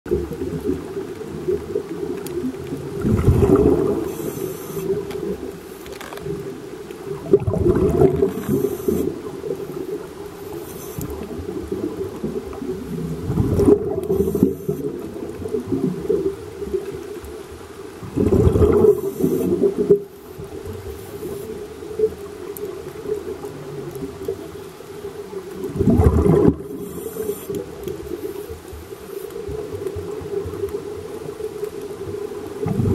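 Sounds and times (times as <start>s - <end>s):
exhaled bubbles rushing underwater: 0.1s - 5.6s, 6.3s - 28.8s, 29.4s - 32.9s.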